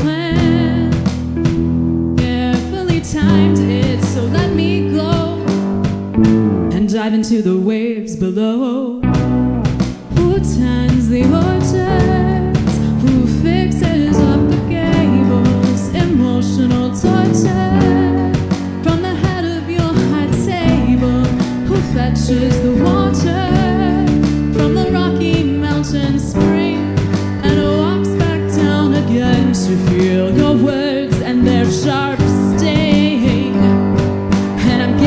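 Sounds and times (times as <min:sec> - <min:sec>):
woman singing: 0:00.0 - 0:01.5, 0:02.2 - 0:06.0, 0:06.6 - 0:09.2, 0:10.0 - 0:35.0
live band playing: 0:00.0 - 0:06.9, 0:09.0 - 0:35.0.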